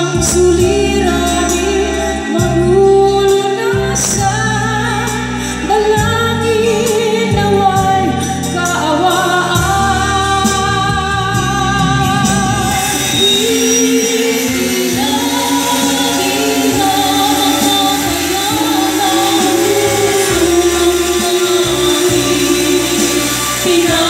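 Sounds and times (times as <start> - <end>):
live band with bass and drums: 0.0 - 24.0
vocal group singing in harmony: 0.0 - 24.0.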